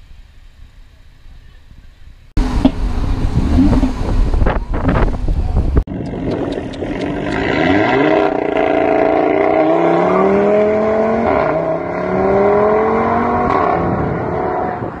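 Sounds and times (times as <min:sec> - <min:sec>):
car engine accelerating: 0:02.4 - 0:15.0.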